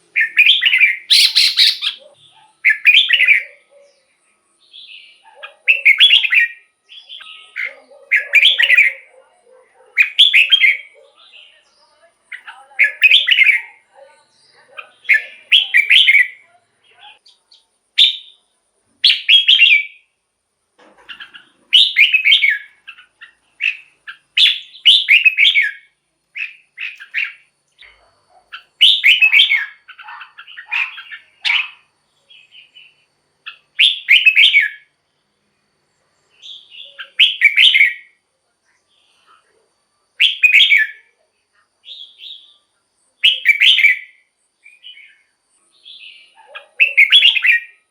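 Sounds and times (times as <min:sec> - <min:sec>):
bulbul singing: 0:00.0 - 0:20.2, 0:21.0 - 0:35.0, 0:36.1 - 0:38.2, 0:40.2 - 0:41.1, 0:43.2 - 0:47.9.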